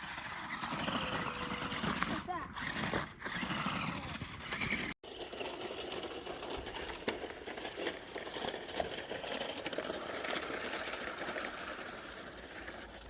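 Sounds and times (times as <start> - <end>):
toy truck electric motor running: 0.0 - 12.8.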